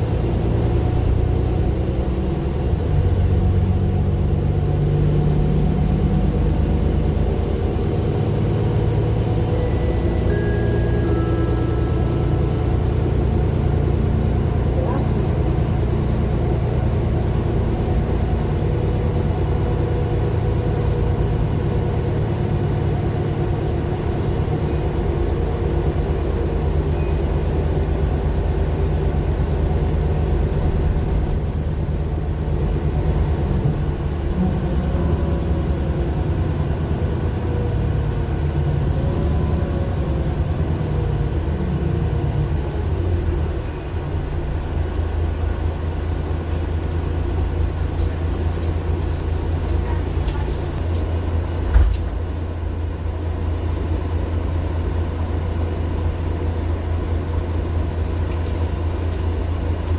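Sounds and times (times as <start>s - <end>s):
bus diesel engine droning: 0.0s - 59.9s.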